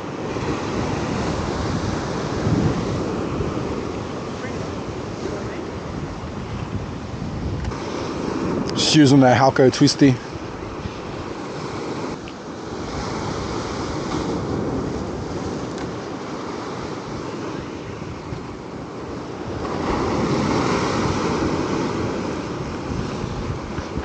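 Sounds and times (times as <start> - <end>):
surf breaking on rocks: 0.0 - 24.0
wind buffeting microphone: 0.0 - 24.0.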